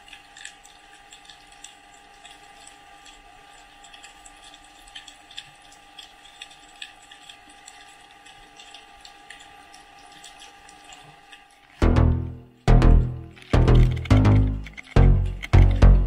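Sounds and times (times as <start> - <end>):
small clicks and crackles: 0.0 - 11.8, 13.3 - 15.8
faint steady hum: 0.0 - 16.0.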